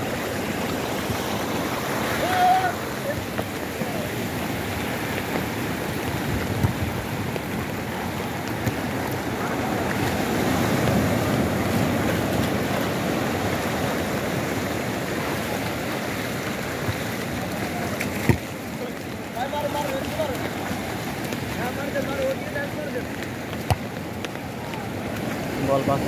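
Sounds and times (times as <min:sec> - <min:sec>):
sea surf breaking: 0:00.0 - 0:26.0.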